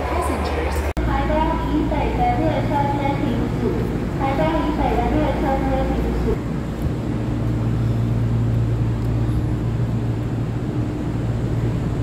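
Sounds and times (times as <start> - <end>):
low train hum: 0.0 - 12.0.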